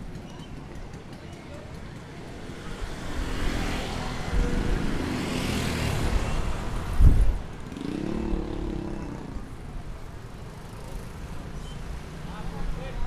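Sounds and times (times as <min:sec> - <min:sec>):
motorcycles passing: 0:00.0 - 0:13.0
traffic noise: 0:00.0 - 0:13.0.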